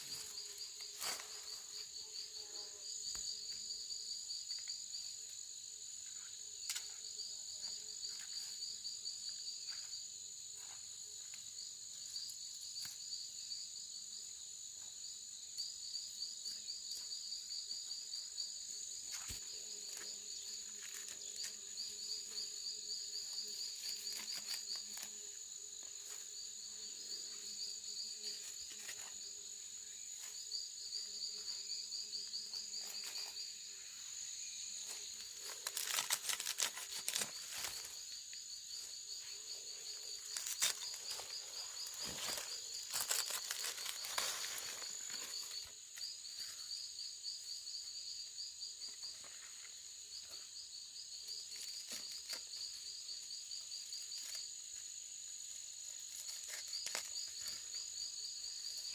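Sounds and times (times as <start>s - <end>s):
insect high buzz: 0.0s - 58.9s.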